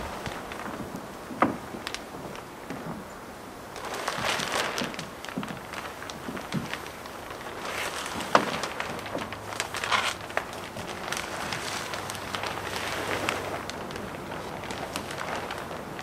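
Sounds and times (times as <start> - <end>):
rustling: 0.0 - 3.1, 3.7 - 16.0.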